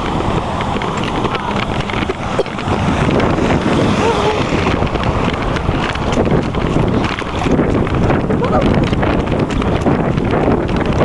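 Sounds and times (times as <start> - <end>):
floodwater rushing along gutter: 0.0 - 11.0
wind buffeting microphone: 0.0 - 11.0.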